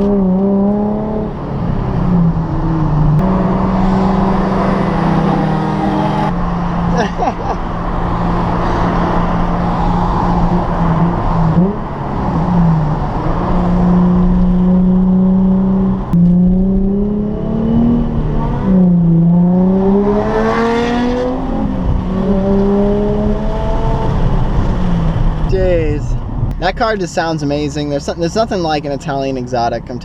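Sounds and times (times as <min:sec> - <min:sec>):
sports car engine accelerating: 0:00.0 - 0:25.5.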